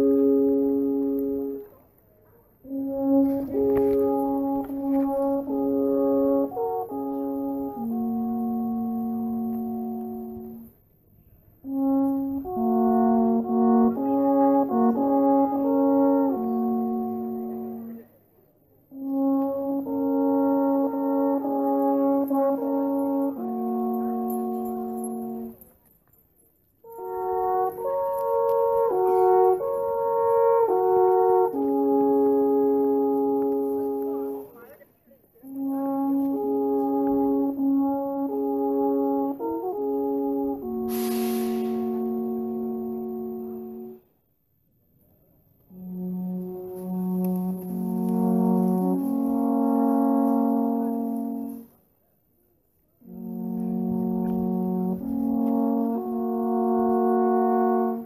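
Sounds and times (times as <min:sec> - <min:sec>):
alphorn melody: 0:00.0 - 0:01.8, 0:02.6 - 0:10.8, 0:11.6 - 0:18.1, 0:18.9 - 0:25.7, 0:26.8 - 0:34.7, 0:35.4 - 0:44.0, 0:45.7 - 0:51.8, 0:53.0 - 0:58.0.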